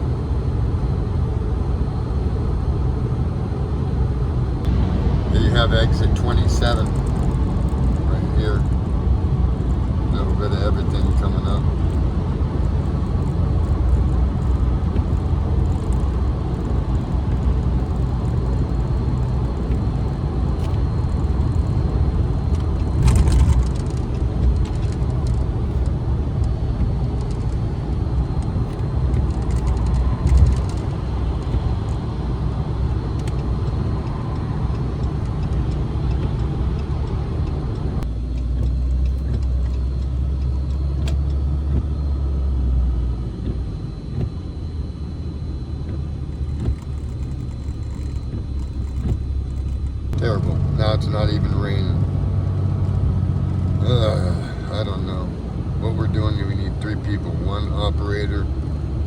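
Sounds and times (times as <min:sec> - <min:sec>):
car road and engine drone: 0:00.0 - 0:59.0.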